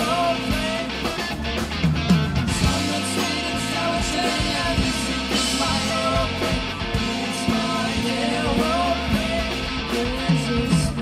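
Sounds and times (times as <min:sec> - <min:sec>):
bass guitar: 0:00.0 - 0:11.0
drums: 0:00.0 - 0:11.0
electric guitar: 0:00.0 - 0:11.0.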